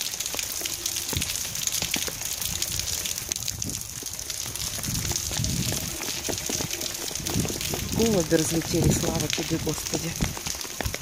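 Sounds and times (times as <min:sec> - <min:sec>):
heavy rain on stone paving: 0:00.0 - 0:11.0.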